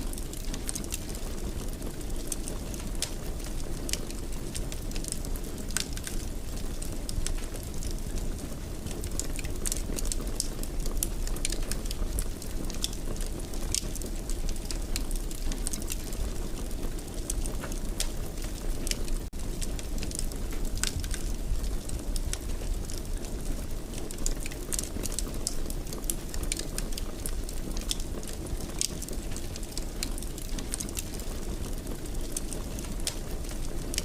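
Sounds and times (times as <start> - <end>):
low rumble of flames: 0.0 - 34.0
wood fire crackling: 0.0 - 34.0.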